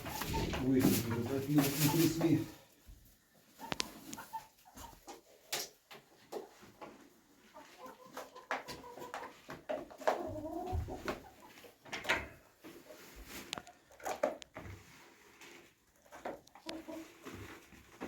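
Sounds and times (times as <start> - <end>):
hens clucking: 0.0 - 14.7, 15.9 - 18.0.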